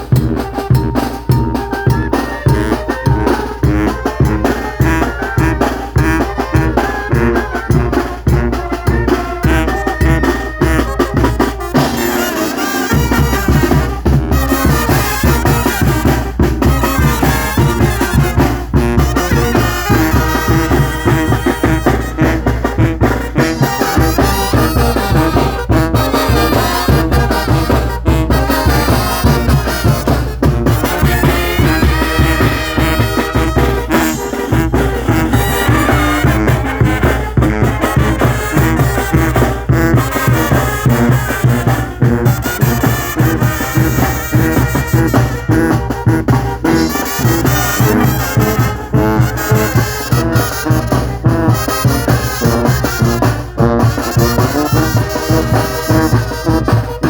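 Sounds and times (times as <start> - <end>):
heavy drum beat: 0.0 - 57.0
trumpets and trombones playing: 0.0 - 57.0.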